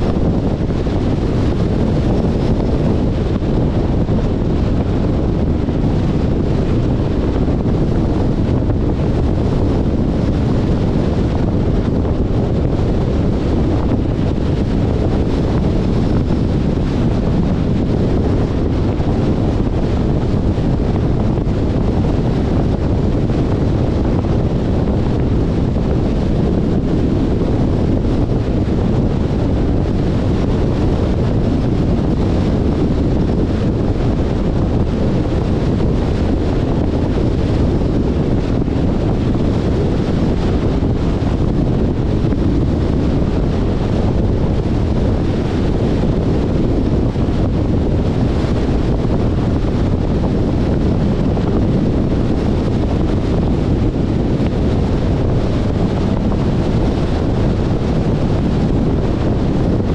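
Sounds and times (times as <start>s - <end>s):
low road rumble: 0.0s - 59.9s
wind noise on microphone: 0.0s - 59.9s.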